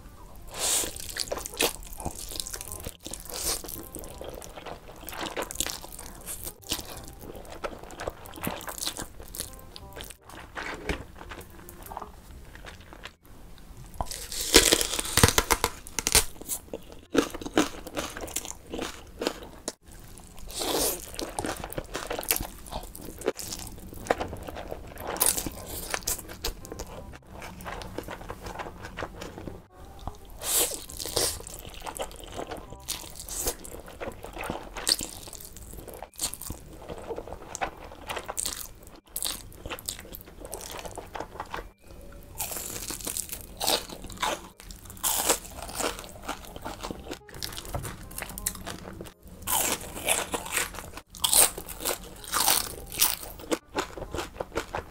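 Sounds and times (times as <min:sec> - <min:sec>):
crunching fried food: 0:00.5 - 0:13.2, 0:13.9 - 0:54.9.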